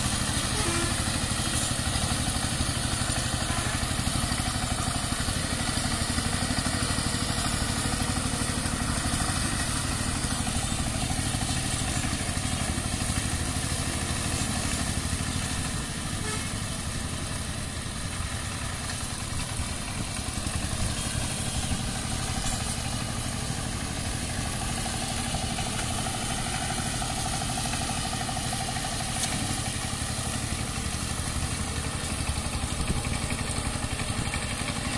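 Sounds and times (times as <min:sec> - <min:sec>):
diesel engine running: 0:00.0 - 0:34.9
rotary tiller churning soil: 0:00.0 - 0:34.9.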